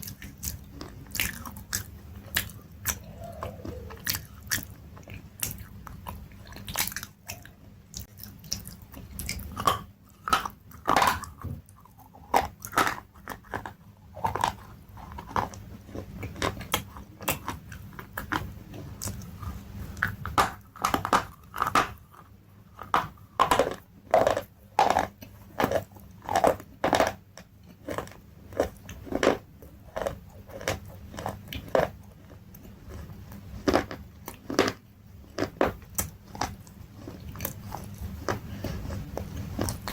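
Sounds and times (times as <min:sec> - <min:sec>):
crunchy food being chewed: 0:00.0 - 0:39.9.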